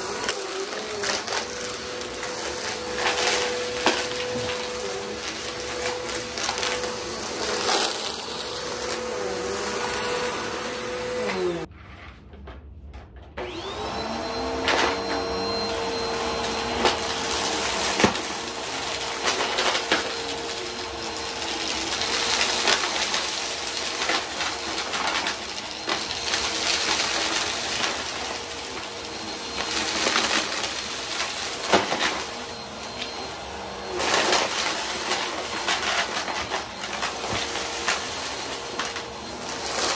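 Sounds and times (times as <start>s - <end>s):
upright vacuum motor whine: 0.0s - 11.7s, 13.4s - 39.9s
vacuum cleaner whine: 0.0s - 11.7s, 13.3s - 39.9s.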